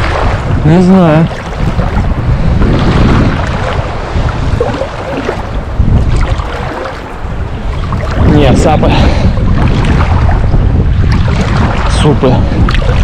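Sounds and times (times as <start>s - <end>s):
sea water sloshing: 0.0s - 13.0s
wind on microphone: 0.0s - 13.0s.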